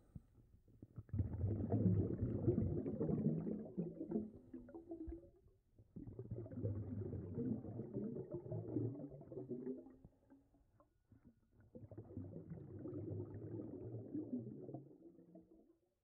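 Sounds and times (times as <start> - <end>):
underwater rumbling and gurgling: 1.0 - 10.5, 11.4 - 15.6.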